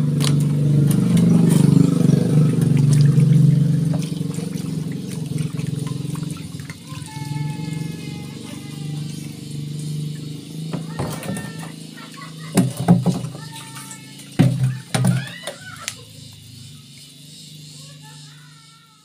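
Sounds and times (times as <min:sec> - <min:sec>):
water gurgling and splashing: 0:00.0 - 0:17.2
mini pump humming: 0:00.0 - 0:19.0.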